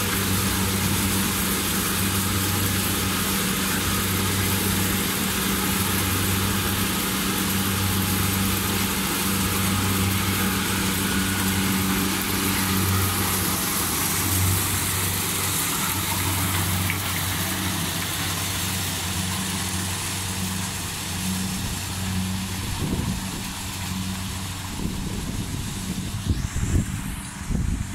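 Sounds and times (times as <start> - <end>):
engine running with hiss: 0.0 - 27.9.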